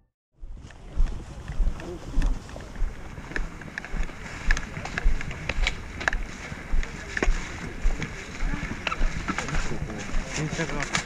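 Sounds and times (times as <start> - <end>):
footsteps crunching dry leaves: 0.6 - 11.0.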